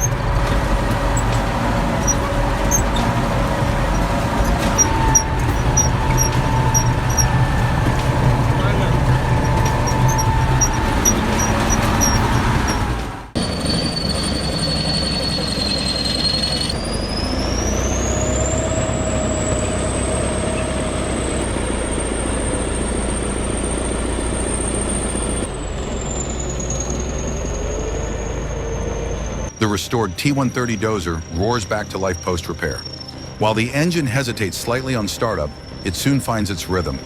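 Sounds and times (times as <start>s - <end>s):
crawler machine diesel rumble: 0.0s - 37.0s
high-pitched machine whine: 0.0s - 37.0s.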